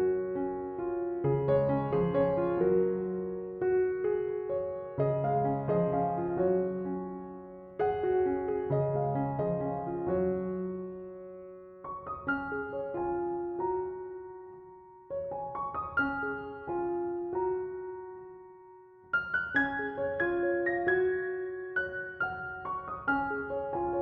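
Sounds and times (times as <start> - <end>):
gentle solo piano music: 0.0 - 24.0.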